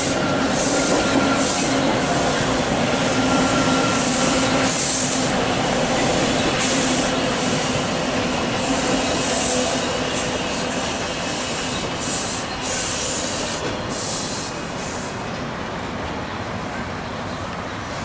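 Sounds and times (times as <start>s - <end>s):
subway train rolling past: 0.0s - 18.0s.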